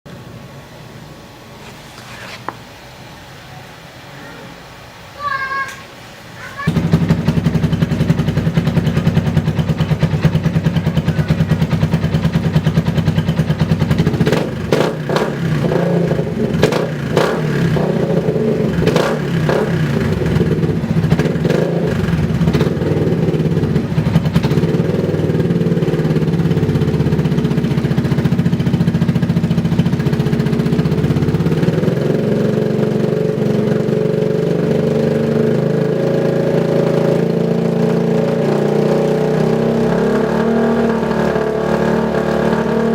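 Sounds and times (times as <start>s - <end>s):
exhaust cracks: 6.6s - 42.9s
motorcycle engine revving: 6.6s - 42.9s.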